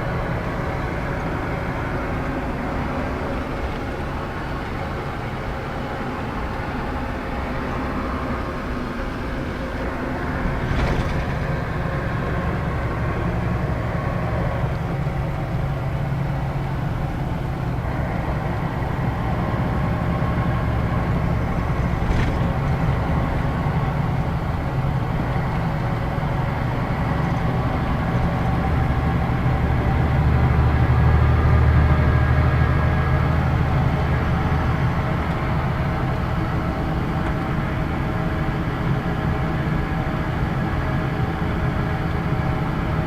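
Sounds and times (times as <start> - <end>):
bus diesel engine droning: 0.0 - 43.0
road noise: 0.0 - 43.0.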